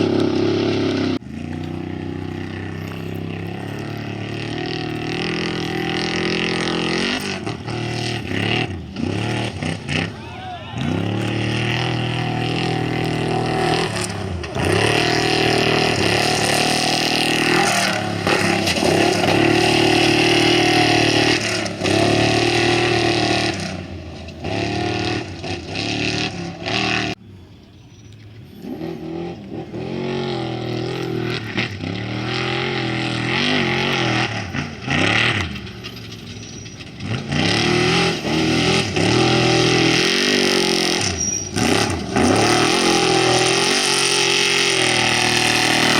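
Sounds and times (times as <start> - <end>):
race vehicle engines revving: 0.0 - 45.9.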